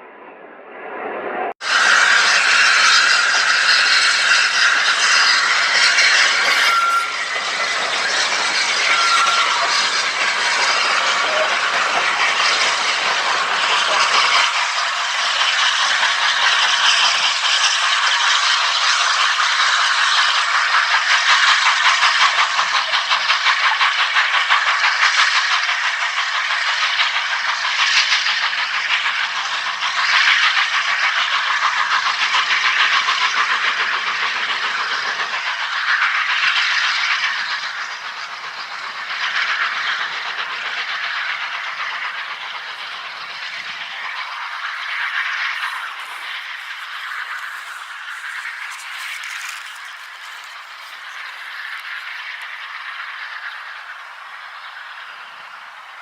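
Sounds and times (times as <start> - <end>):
steam train hissing: 1.6 - 56.0.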